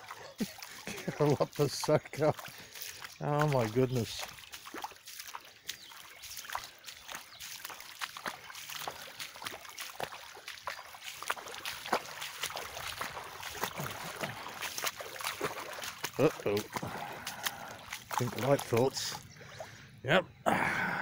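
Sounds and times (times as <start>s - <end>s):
trickle of running water: 0.0s - 19.2s
footsteps splashing through water: 0.0s - 19.8s.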